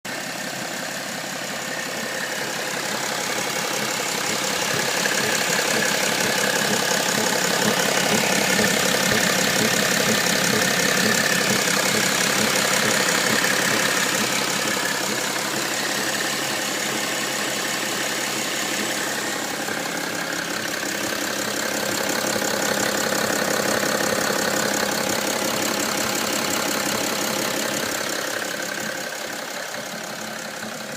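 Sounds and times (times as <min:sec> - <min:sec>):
diesel engine idling with thumping: 0:00.1 - 0:30.9.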